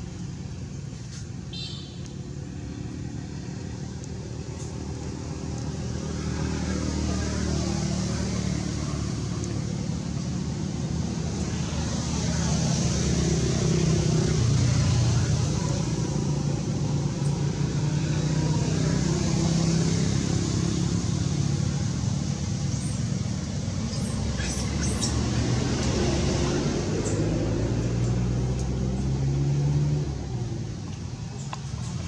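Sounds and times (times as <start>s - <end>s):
engine running with low rumble: 0.0s - 32.0s.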